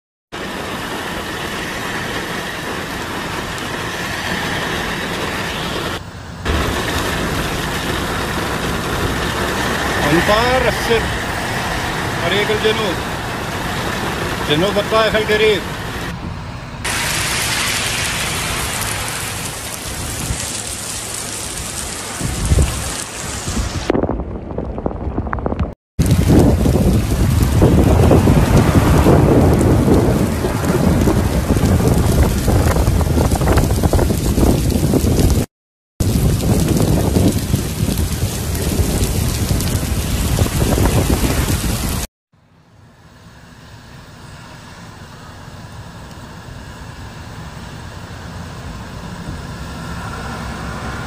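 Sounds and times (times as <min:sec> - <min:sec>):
car tyres swishing through water: 0:00.3 - 0:16.1, 0:16.8 - 0:23.9, 0:26.0 - 0:42.1, 0:44.0 - 0:51.0
heavy rain on road: 0:00.3 - 0:16.1, 0:16.8 - 0:42.1, 0:43.2 - 0:51.0
low rumbles: 0:00.8 - 0:42.1.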